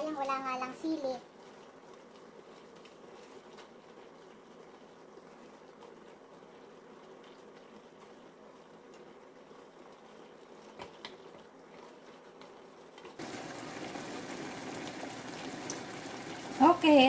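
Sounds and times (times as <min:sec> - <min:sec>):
liquid bubbling in a frying pan: 0:00.0 - 0:17.0.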